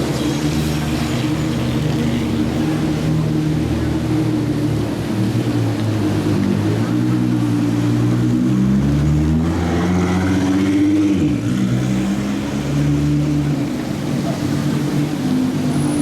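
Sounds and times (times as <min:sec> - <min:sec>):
car engines pulling away: 0:00.0 - 0:16.0.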